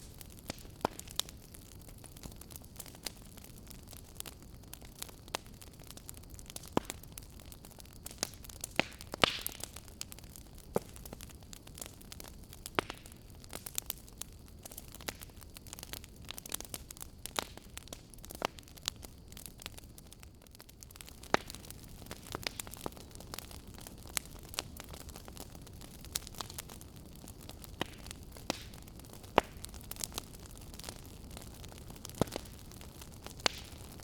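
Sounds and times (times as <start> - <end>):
faint steady hiss: 0.0 - 34.0
firewood crackling and popping: 0.0 - 34.0.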